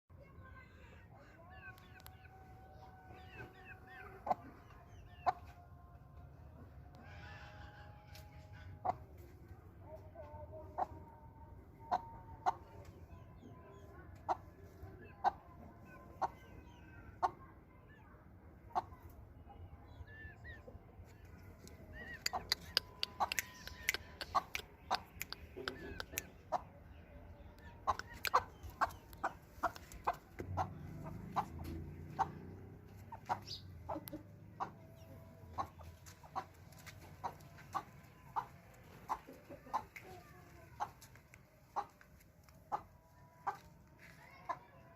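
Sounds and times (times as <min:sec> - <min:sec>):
hens clucking: 0:01.2 - 0:05.6, 0:06.9 - 0:17.6, 0:18.6 - 0:19.2, 0:20.0 - 0:44.9.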